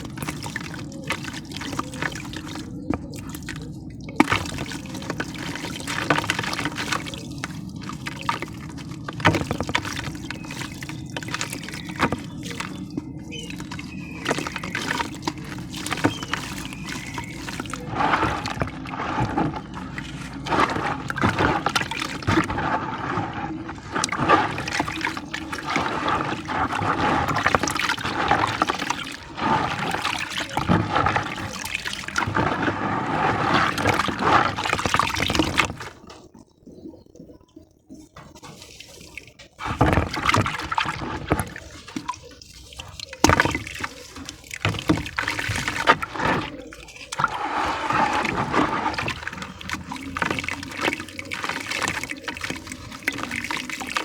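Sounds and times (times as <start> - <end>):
discs fizzing in water: 0.0 - 37.1, 37.9 - 54.0
water sloshing: 0.0 - 54.0.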